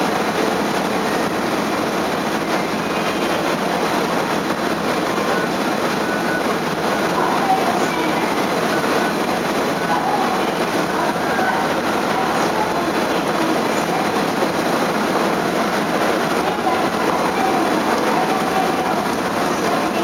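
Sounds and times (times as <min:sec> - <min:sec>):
rushing water: 0:00.0 - 0:20.0
ship engine rumble: 0:00.0 - 0:20.0.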